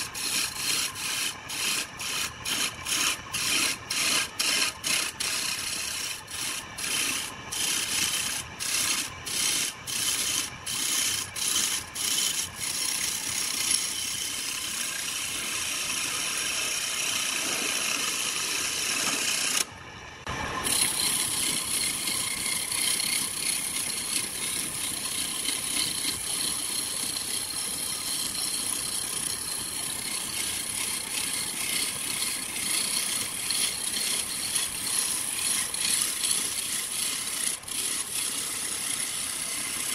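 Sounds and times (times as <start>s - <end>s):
turning tool cutting wood on lathe: 0.0s - 39.9s.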